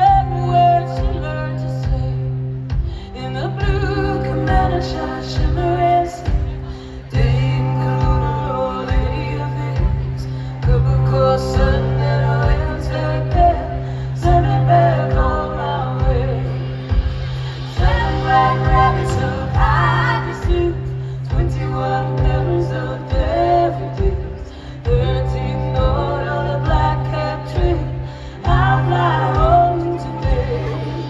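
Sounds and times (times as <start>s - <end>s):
live band music: 0.0s - 31.0s
person singing: 0.0s - 31.0s.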